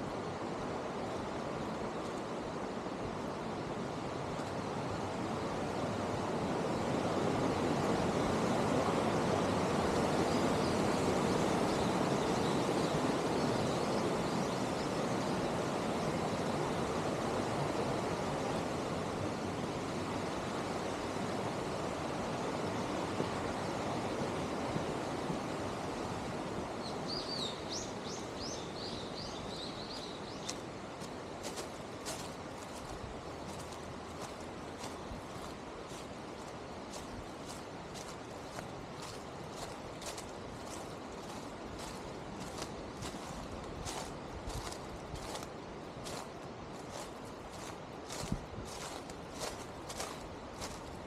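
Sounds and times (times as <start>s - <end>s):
stream rushing: 0.0s - 51.0s.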